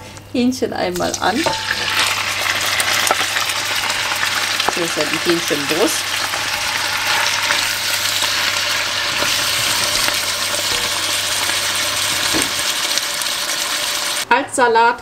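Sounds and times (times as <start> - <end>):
chicken sizzling in pan: 1.4 - 14.3.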